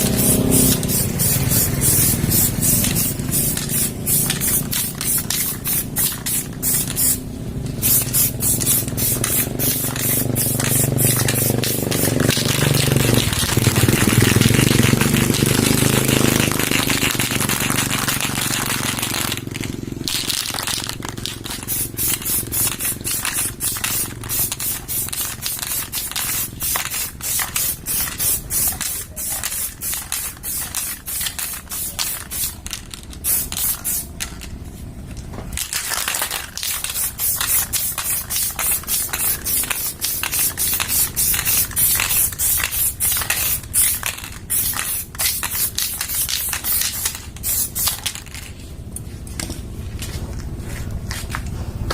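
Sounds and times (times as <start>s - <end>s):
aerosol spray paint hissing: 0.0s - 19.5s, 20.1s - 34.4s, 35.8s - 48.4s.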